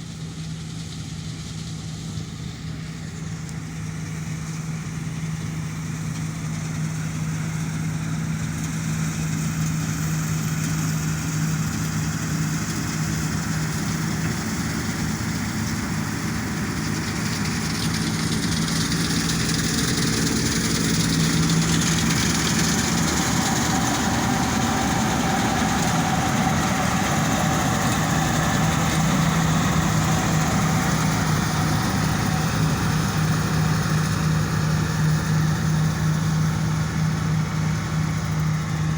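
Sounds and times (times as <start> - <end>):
combine harvester engine humming: 0.0 - 38.9.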